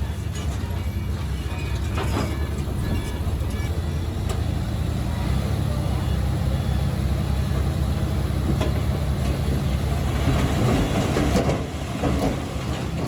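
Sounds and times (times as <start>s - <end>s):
bulldozer diesel engine running: 0.0s - 13.0s
steel tracks clanking: 0.0s - 13.0s.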